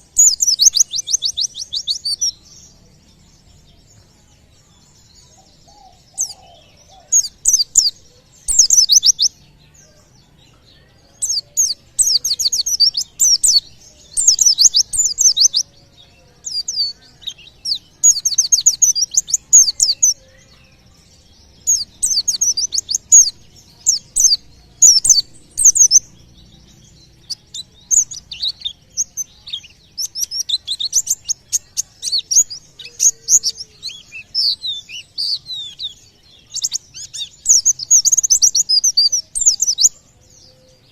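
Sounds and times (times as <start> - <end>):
bird singing rapid high chirps: 0.0 - 40.9.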